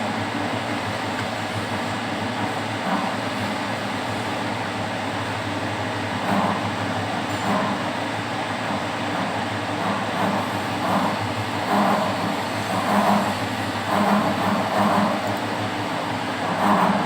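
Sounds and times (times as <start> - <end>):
milling machine hum: 0.0 - 17.0.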